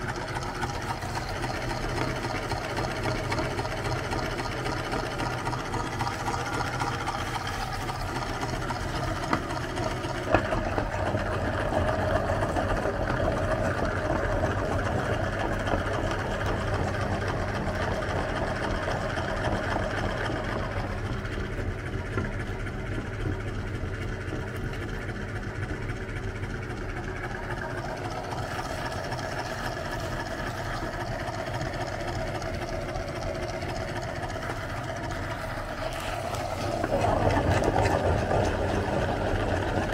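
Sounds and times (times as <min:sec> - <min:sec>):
meat grinder humming: 0:00.0 - 0:39.9.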